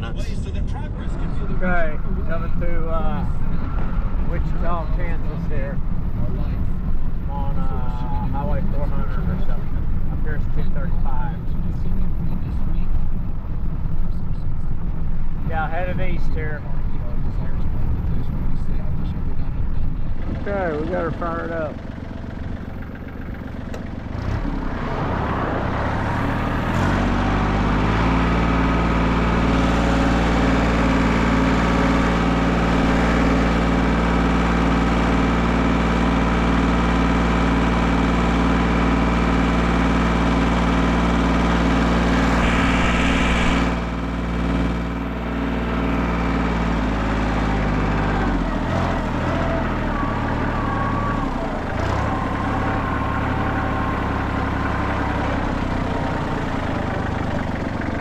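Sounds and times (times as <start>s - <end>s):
engine revving and idling: 0.0s - 58.0s.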